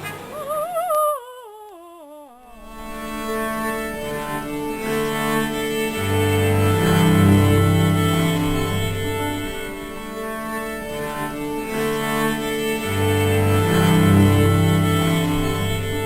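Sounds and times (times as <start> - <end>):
bowed string music: 2.5 - 16.0.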